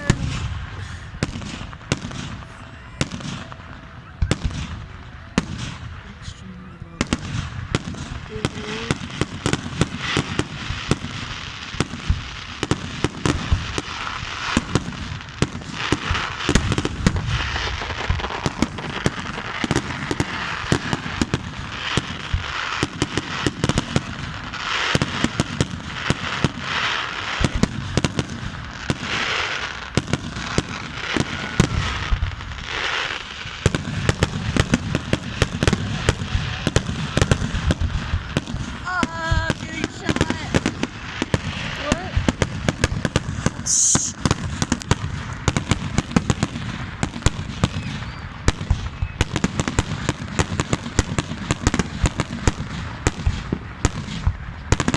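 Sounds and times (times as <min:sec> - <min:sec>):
fireworks bangs and pops: 0:00.0 - 0:54.9
fireworks hissing: 0:00.0 - 0:54.9.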